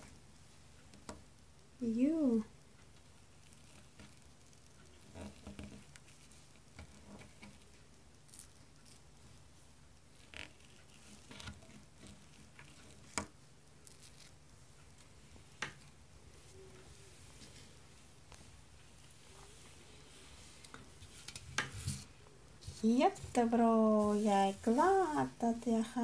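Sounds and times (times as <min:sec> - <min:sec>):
toy rolling pin on play dough: 0:01.9 - 0:26.0.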